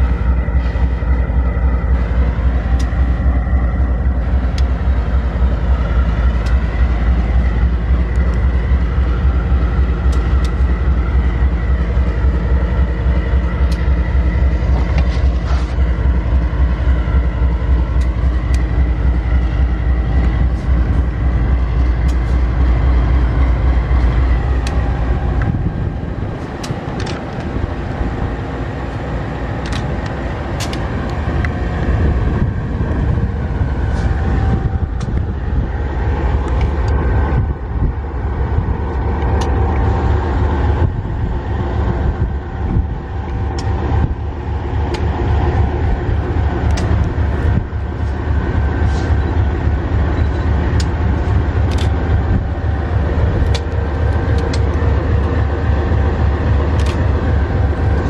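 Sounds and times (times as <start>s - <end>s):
held whine: 0.0s - 58.0s
locomotive engine rumble: 0.0s - 58.0s
train clanks: 0.0s - 58.0s.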